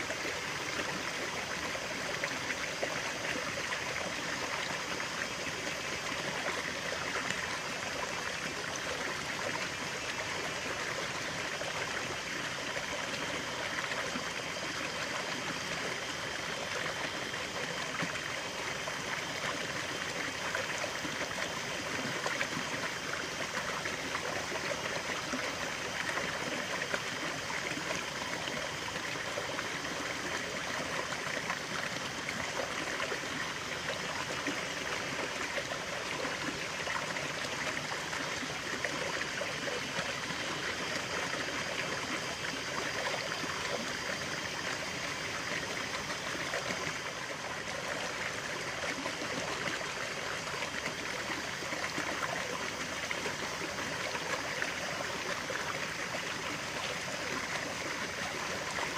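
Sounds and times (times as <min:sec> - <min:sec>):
stream flowing and trickling: 0:00.0 - 0:58.9.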